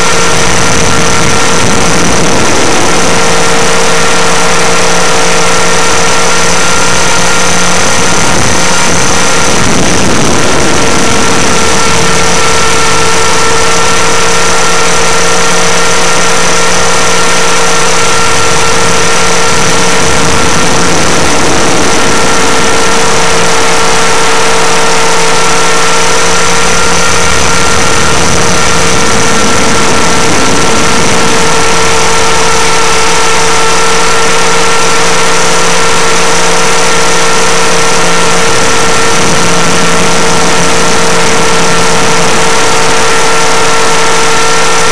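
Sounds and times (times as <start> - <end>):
electric motor whine: 0.0 - 44.9
low hum: 0.0 - 44.9
rotor blades rushing: 0.0 - 44.9.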